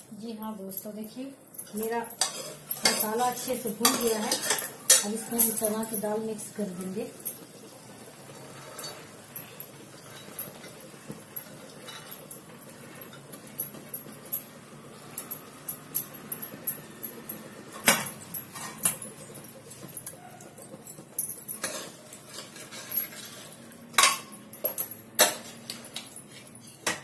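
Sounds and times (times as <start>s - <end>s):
metal spoon clinking and scraping pot: 0.8s - 7.7s, 8.3s - 27.0s.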